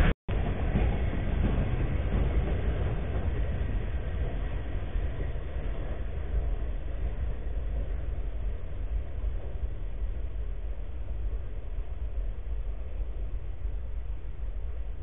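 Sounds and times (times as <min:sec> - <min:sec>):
freight train cars rolling: 0:00.0 - 0:15.0.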